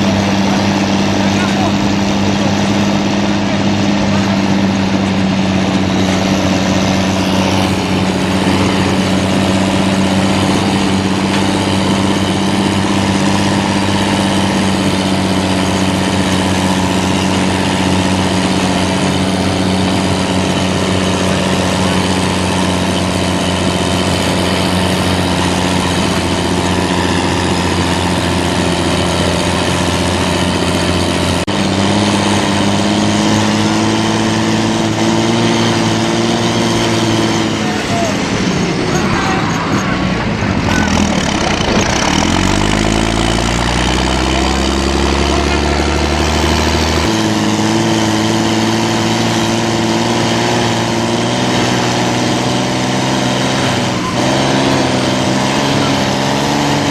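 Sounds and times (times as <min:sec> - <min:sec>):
heavy vehicle engine running: 0:00.0 - 0:56.9.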